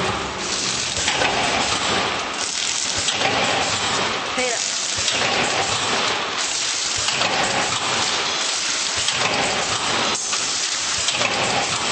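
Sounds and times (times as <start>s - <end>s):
packaging machine running: 0.0s - 11.9s.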